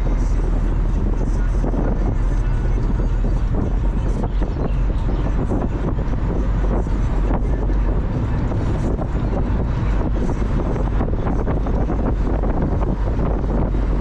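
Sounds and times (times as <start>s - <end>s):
car engine and road rumble: 0.0s - 14.0s
wind buffeting microphone: 0.0s - 14.0s.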